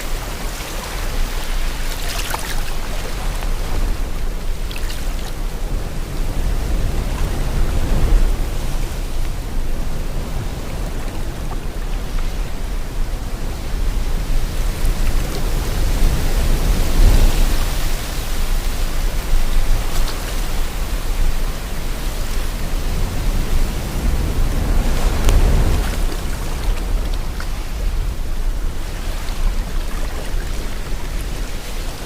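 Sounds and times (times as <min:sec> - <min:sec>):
sea water rushing: 0:00.0 - 0:32.0.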